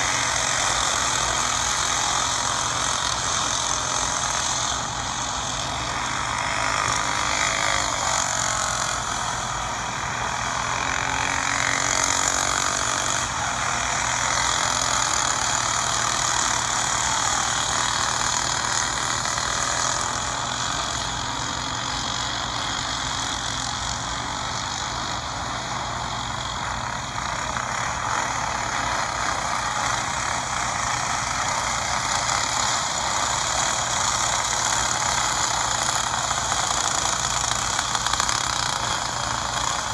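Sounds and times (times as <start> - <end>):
kart engines running hard: 0.0 - 39.9.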